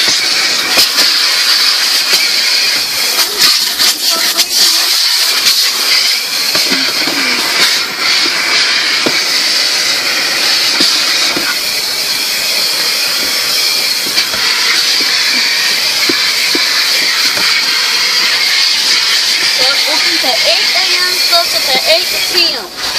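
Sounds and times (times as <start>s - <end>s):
car wash rushing hiss: 0.0s - 22.9s.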